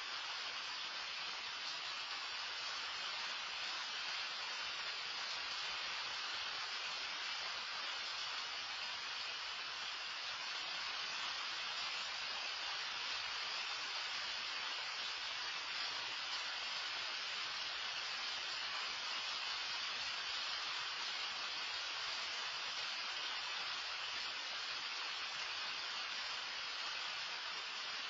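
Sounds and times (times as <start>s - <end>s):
loud rain falling: 0.0s - 28.0s.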